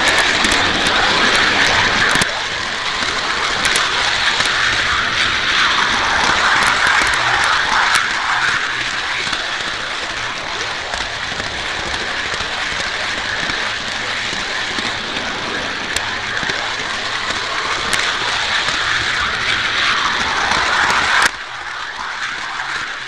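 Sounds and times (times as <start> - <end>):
model train running on track: 0.0 - 23.0
sharp clicks: 0.0 - 23.0.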